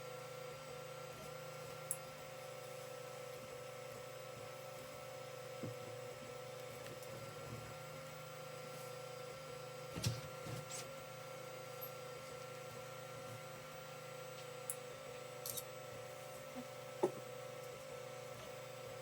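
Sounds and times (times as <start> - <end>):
three d printer humming: 0.0 - 19.0.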